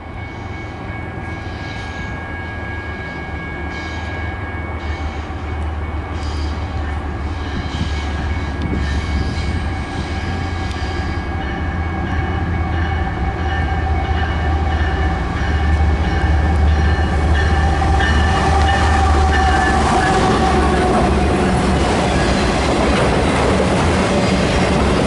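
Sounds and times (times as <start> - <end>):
diesel locomotive engine drone: 0.0 - 25.0
locomotive whine: 0.0 - 25.0.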